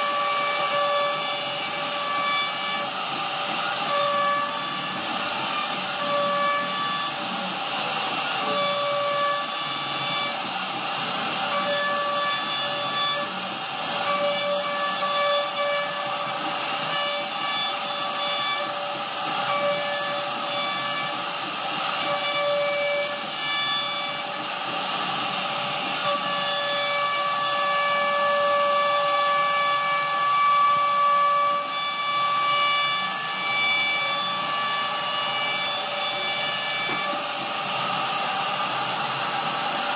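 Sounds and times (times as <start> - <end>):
bit cutting wood: 0.0 - 39.9
router spindle whine: 0.0 - 39.9.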